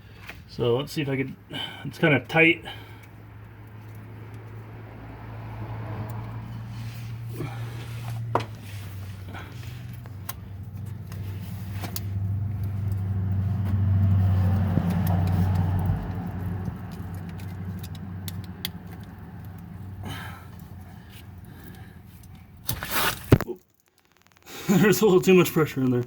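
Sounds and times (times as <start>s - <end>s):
low vehicle engine hum: 0.0s - 22.8s.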